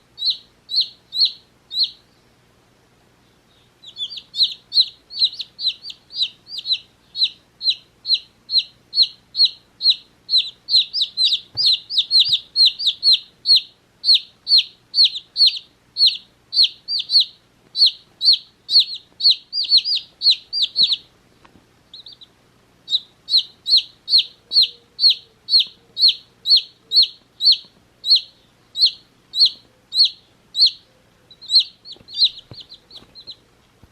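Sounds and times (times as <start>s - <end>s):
chicks peeping: 0.0s - 2.4s, 3.2s - 33.9s.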